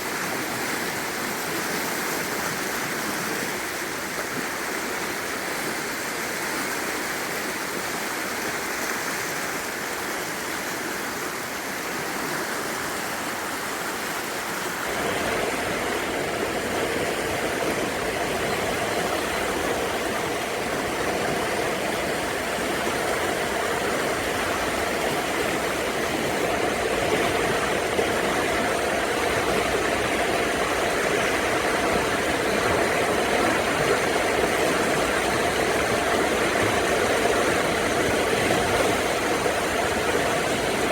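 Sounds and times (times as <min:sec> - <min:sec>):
rushing river water: 0:00.0 - 0:40.9.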